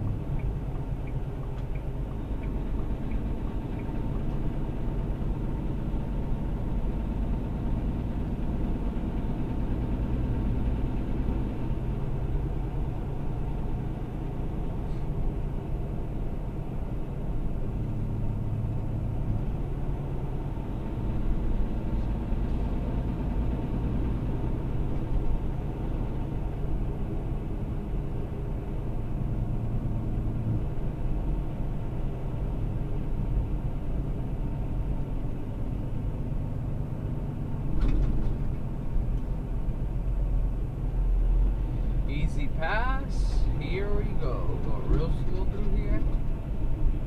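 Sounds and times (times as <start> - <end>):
road noise: 0.0 - 47.0
truck engine rumble: 0.0 - 47.0.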